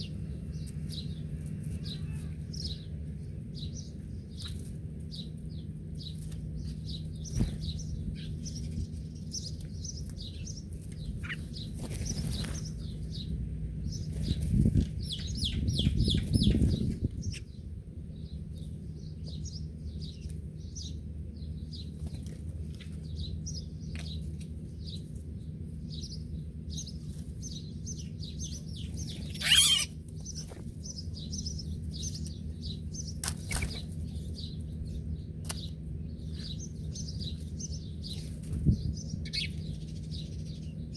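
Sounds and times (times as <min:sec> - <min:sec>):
small birds chirping: 0:00.0 - 0:40.9
steady low hum: 0:00.0 - 0:40.9.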